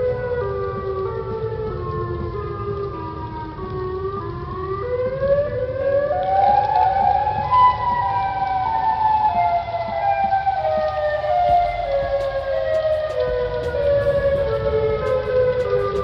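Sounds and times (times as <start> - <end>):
warning siren wailing: 0.0 - 16.0.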